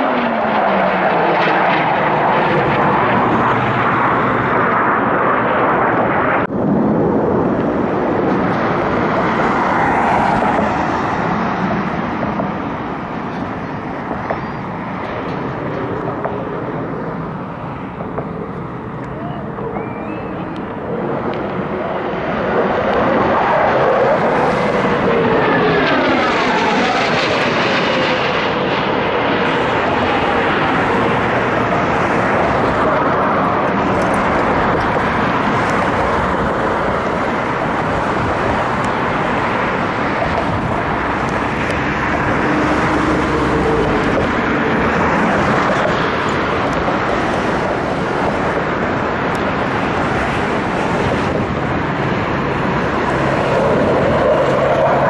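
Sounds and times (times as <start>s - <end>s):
jet aircraft passing overhead: 0.0s - 55.0s.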